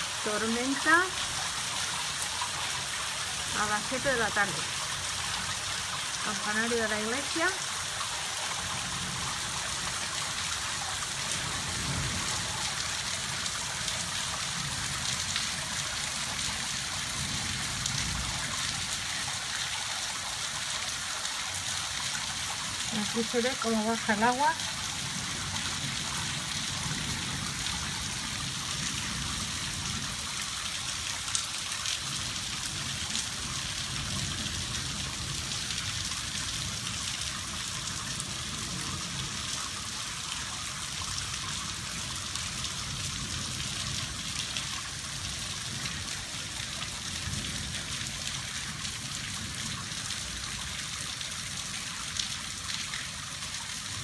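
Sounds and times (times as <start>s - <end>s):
rain on tiled roofs: 0.0s - 54.0s
rainwater running down street: 0.0s - 54.0s.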